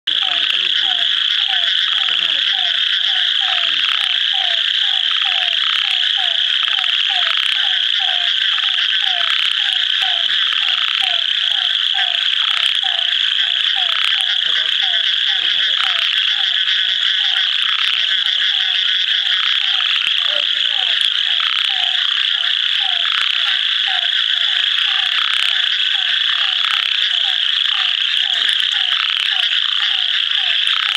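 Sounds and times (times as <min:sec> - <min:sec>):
frog calling short notes: 0:00.1 - 0:30.9
high-pitched chorus: 0:00.1 - 0:30.9.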